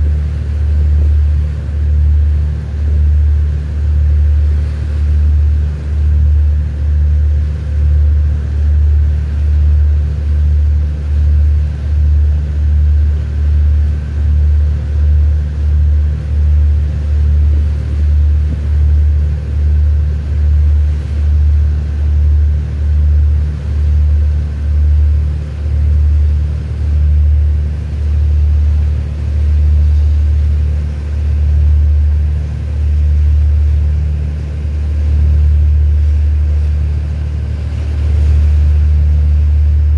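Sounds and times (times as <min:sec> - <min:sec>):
marine engine rumbling: 0:00.0 - 0:39.9.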